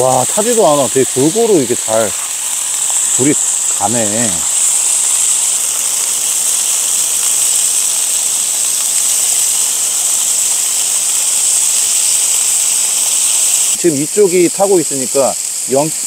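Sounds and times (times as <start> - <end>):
meat sizzling on griddle: 0.0 - 16.0.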